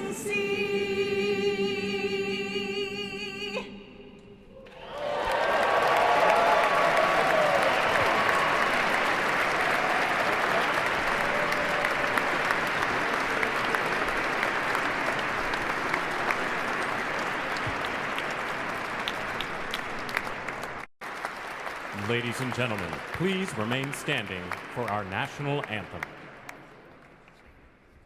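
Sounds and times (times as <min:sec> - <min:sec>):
large crowd applauding: 0:04.7 - 0:27.6.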